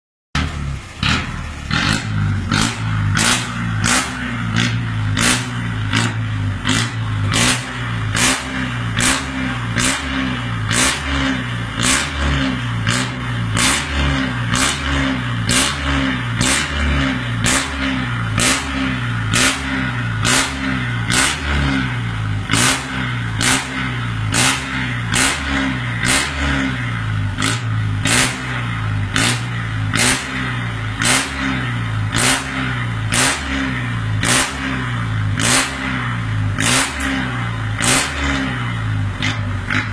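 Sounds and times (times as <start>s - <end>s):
truck engine revving: 0.4s - 39.9s.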